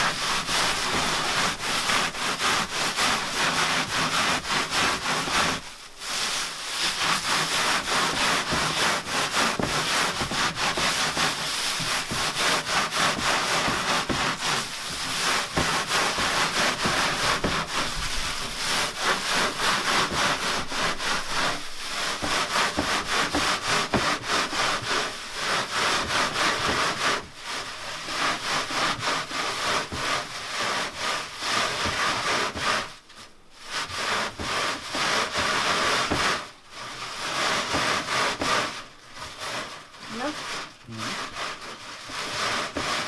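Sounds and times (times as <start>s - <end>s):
dry leaves rubbed over wire mesh: 0.0s - 43.0s.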